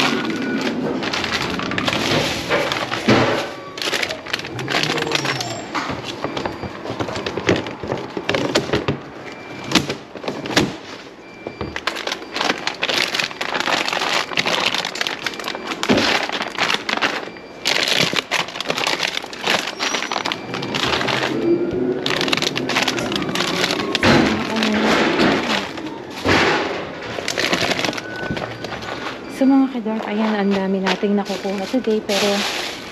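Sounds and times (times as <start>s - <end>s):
plastic packaging crinkling: 0.0s - 32.9s.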